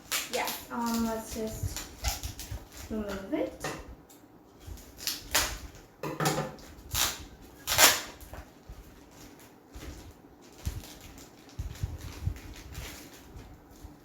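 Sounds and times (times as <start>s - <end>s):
packaging rustling and tearing: 0.0s - 3.3s, 4.6s - 5.9s, 6.6s - 14.0s.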